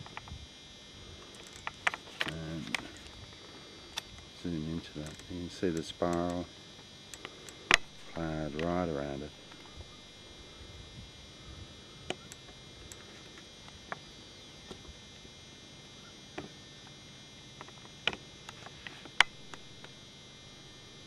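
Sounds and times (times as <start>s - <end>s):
thin electronic whine: 0.0s - 21.0s.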